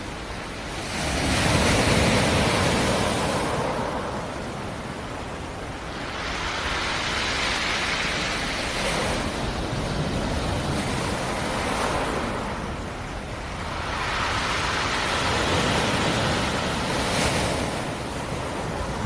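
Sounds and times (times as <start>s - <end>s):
surf waves washing in: 0.0s - 19.0s.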